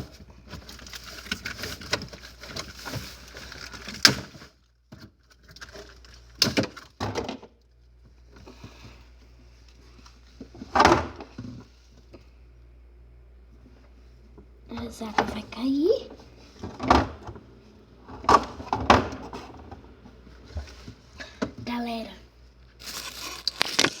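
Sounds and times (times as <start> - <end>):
refrigerator low hum: 0.0 - 24.0.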